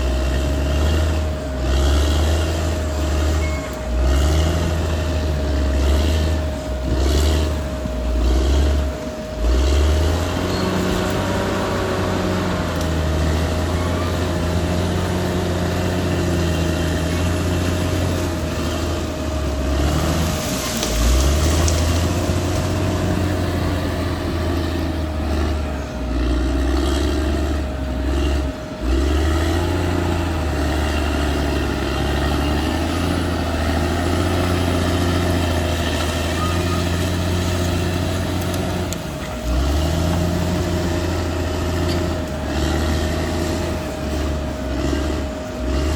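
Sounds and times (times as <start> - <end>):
bulldozer diesel engine under load: 0.0 - 45.9
steady whine: 0.0 - 45.9.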